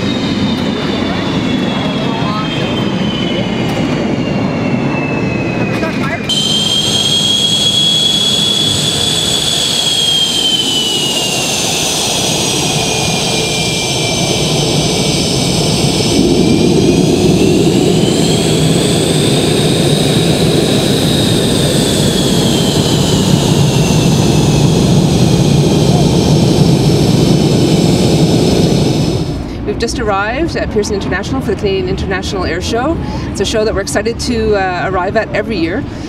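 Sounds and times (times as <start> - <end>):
jet engines whining and roaring: 0.0 - 36.0.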